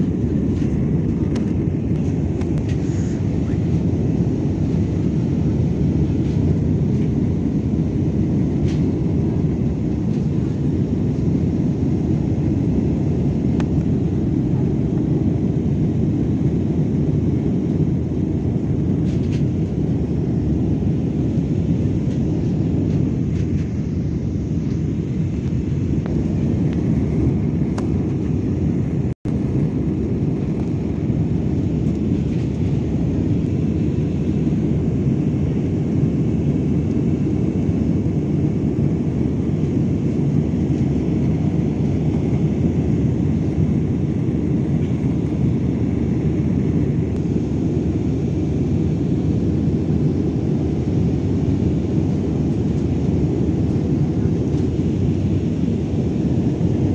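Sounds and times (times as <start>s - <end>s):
jet engine roar in cabin: 0.0s - 56.9s.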